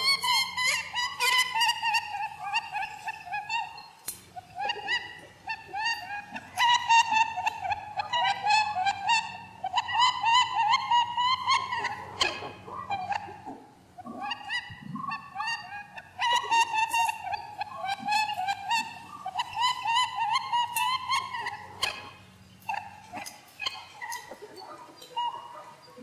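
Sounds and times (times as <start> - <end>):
squeaky animal calls: 0.0 - 26.0.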